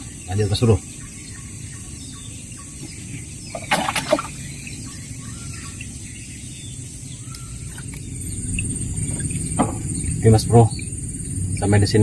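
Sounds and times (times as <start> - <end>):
faint bird chirps: 0.0 - 12.0
high insect whine: 0.0 - 12.0.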